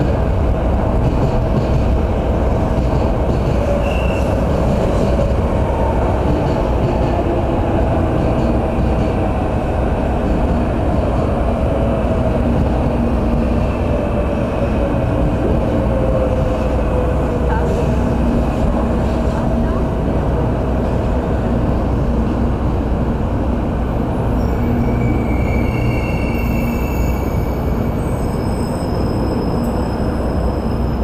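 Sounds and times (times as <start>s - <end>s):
steady train tone: 0.0s - 31.0s
train wheels rumbling: 0.0s - 31.0s.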